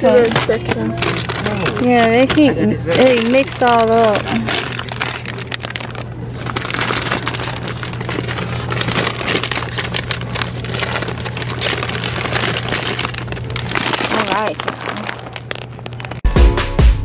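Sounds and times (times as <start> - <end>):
steady low hum: 0.0 - 16.2
foil snack bags crinkling: 0.0 - 16.3.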